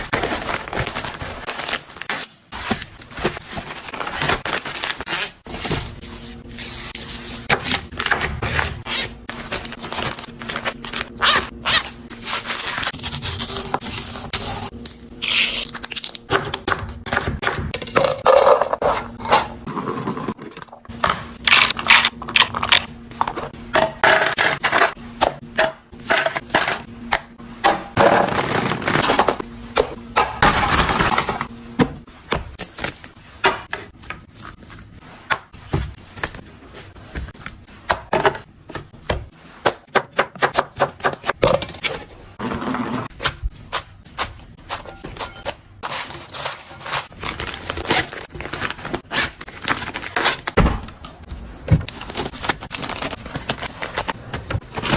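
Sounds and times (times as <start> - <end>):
groceries handled in a refrigerator: 0.0 - 39.9, 41.4 - 54.9.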